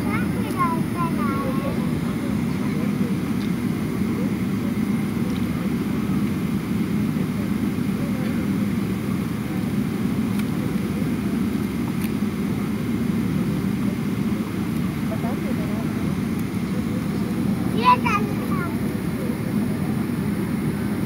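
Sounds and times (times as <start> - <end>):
airliner cabin rumble: 0.0 - 21.0
jet engines running: 0.0 - 21.0.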